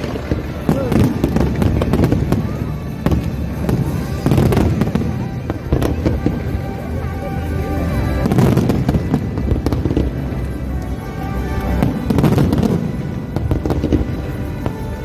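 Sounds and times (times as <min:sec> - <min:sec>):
fireworks bursting: 0:00.0 - 0:15.0
music: 0:00.0 - 0:15.0.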